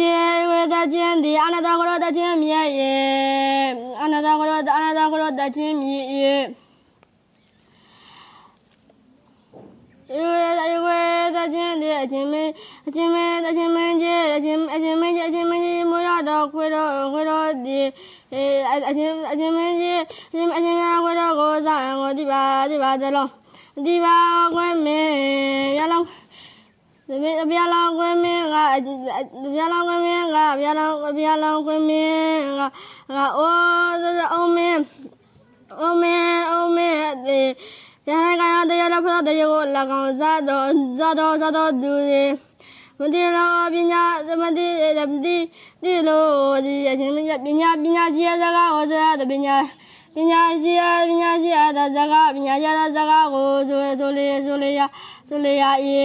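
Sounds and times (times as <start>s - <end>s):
boy chanting a sermon: 0.0s - 6.6s, 10.0s - 26.2s, 27.1s - 56.0s.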